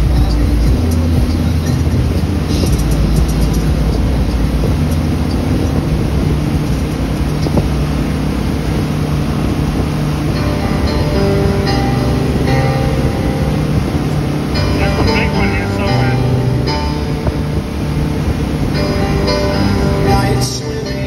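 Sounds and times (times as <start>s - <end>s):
boat engine running: 0.0s - 21.0s
water rushing from wake: 0.0s - 21.0s
wind buffeting microphone: 0.0s - 21.0s.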